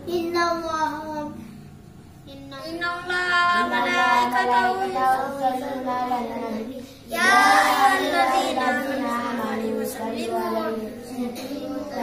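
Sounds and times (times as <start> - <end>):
boy chanting: 2.3 - 12.0.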